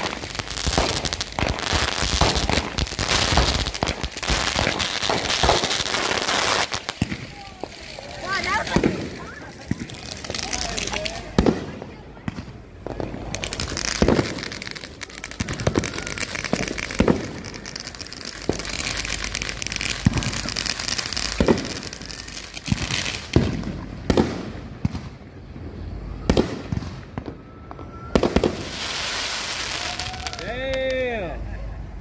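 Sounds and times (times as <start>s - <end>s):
fireworks banging: 0.0s - 31.1s
fireworks crackling: 0.0s - 31.2s.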